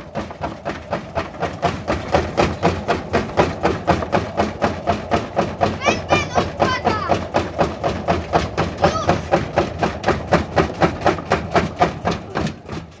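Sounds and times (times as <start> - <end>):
washing machine knocking: 0.0 - 13.0.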